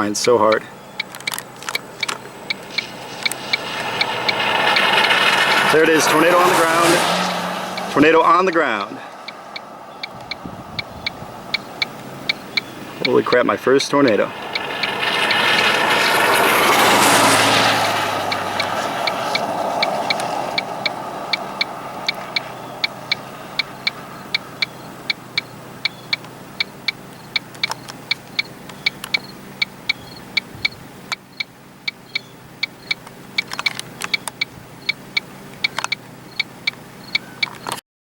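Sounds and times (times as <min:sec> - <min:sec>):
hazard light flasher ticking: 0:00.0 - 0:37.8.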